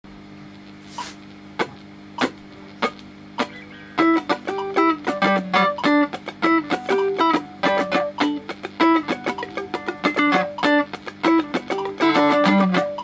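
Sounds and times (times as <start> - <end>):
staccato electric guitar: 1.6 - 13.0
metronome clicking: 2.2 - 13.0.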